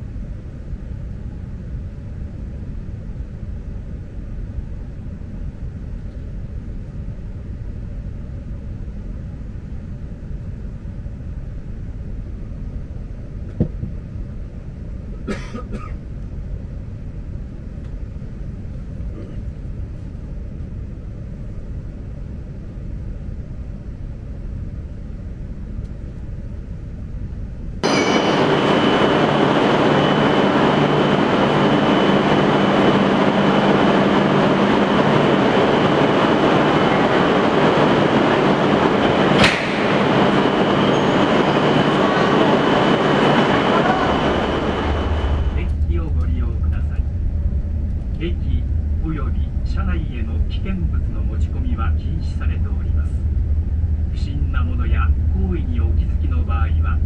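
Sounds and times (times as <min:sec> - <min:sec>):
train hum with high whine: 0:00.0 - 0:57.0
train interior rumble: 0:10.4 - 0:57.0.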